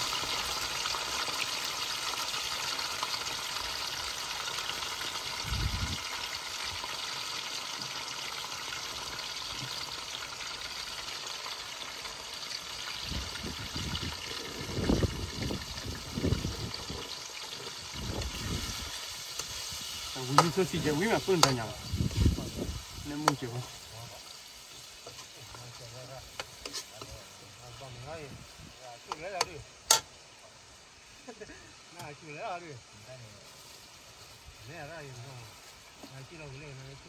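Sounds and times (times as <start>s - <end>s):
food sizzling in a wok: 0.0s - 37.0s.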